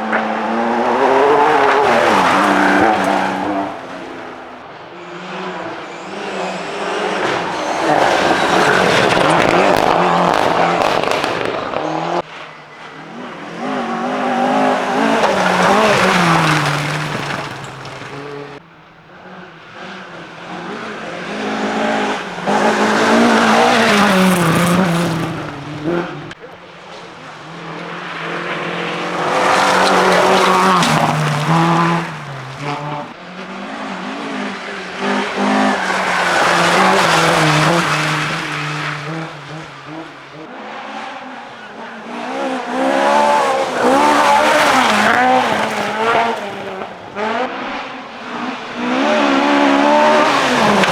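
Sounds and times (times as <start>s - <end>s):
rally cars revving past: 0.0s - 50.9s.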